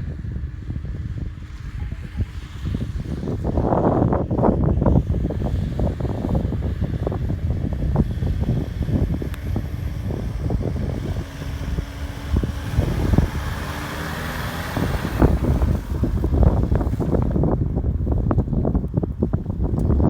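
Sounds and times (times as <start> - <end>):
wind buffeting microphone: 0.0 - 20.0
pickup engine rumbling: 0.5 - 20.0.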